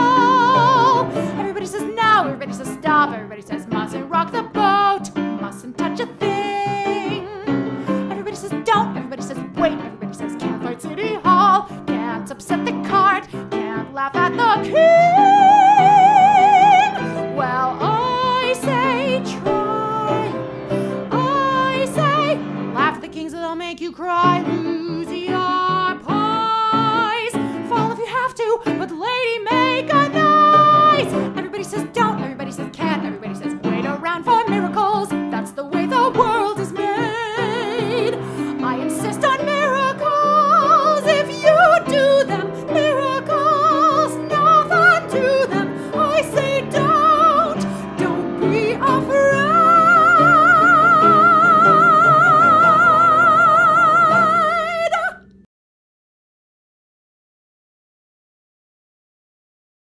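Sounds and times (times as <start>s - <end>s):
woman singing with vibrato: 0.0s - 55.3s
recorded backing track: 0.0s - 55.5s.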